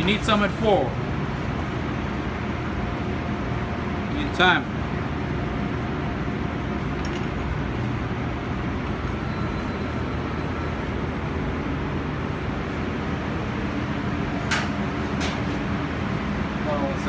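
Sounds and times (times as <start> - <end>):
kitchen fans whooshing hum: 0.0 - 17.0.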